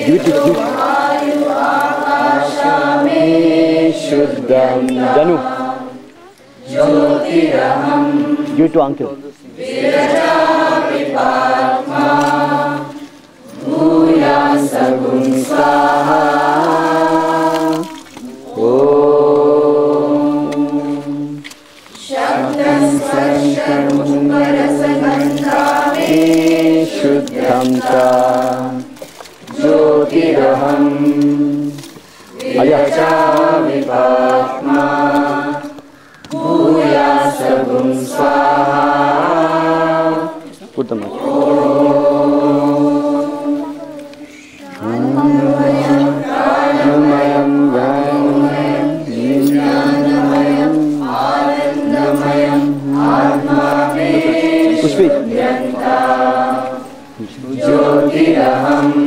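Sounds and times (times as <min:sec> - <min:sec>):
voices chanting together: 0:00.0 - 0:59.0.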